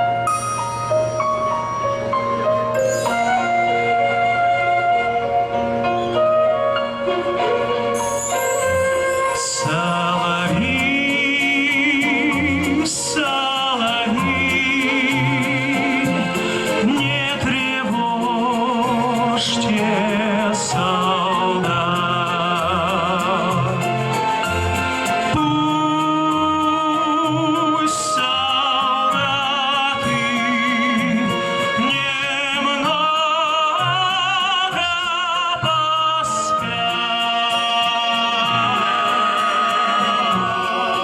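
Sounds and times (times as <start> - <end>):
full backing music: 0.0 - 41.0
wordless melody with wide vibrato: 0.0 - 41.0.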